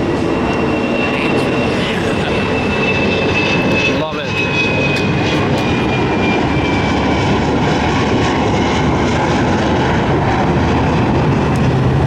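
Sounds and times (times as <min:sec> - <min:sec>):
high engine whine: 0:00.0 - 0:12.0
jet engines roaring: 0:00.0 - 0:12.0.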